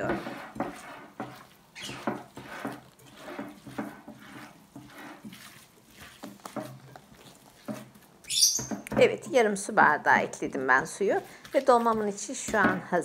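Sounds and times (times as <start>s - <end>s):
soft wet squishes of kneading: 0.0s - 13.0s.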